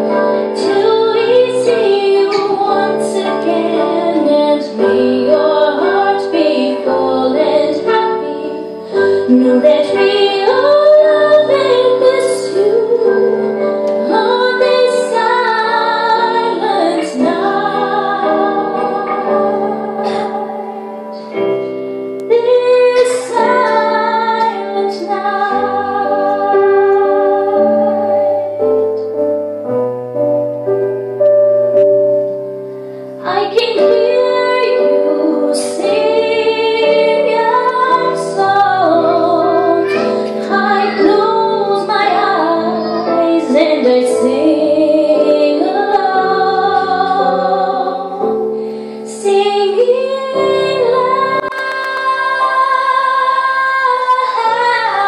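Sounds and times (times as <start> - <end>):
girl singing ballad into microphone: 0.0 - 28.6, 33.2 - 55.0
instrumental backing with piano: 0.0 - 55.0.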